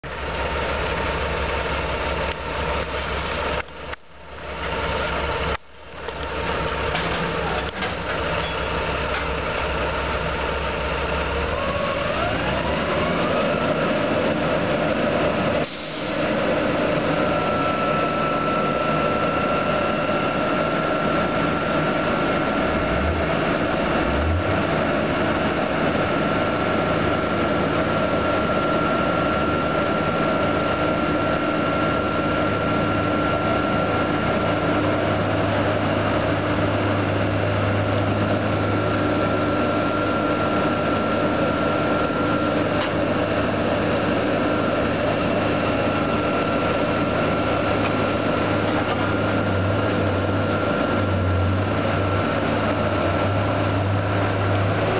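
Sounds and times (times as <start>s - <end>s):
drilling rig engine running: 0.0s - 54.9s.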